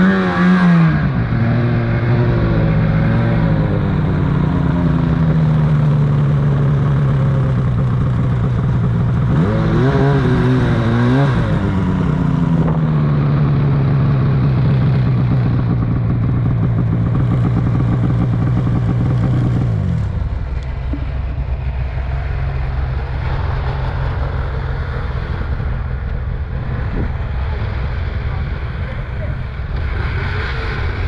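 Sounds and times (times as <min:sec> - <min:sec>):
snowmobile engine revving: 0:00.0 - 0:31.0.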